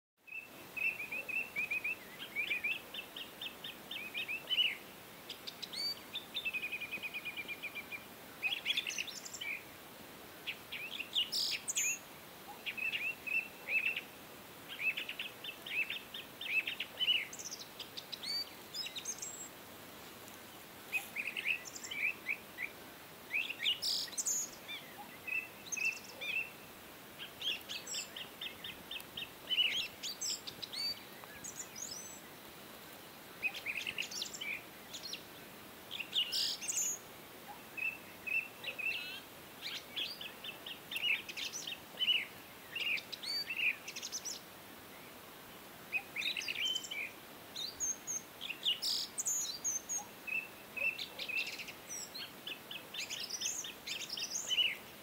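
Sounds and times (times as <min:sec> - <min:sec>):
faint steady hiss: 0:00.2 - 0:55.0
small birds chirping: 0:00.2 - 0:55.0.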